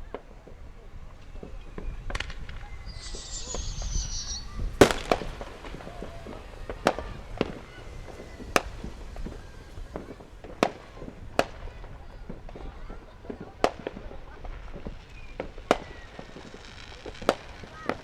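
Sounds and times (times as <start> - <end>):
firecrackers banging: 0.1 - 18.0
firecracker hiss: 0.2 - 18.0.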